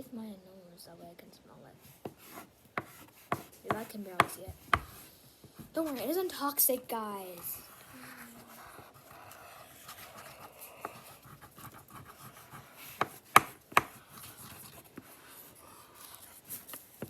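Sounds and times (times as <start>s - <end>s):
marker scratching on paper: 1.9s - 5.1s, 5.8s - 17.0s.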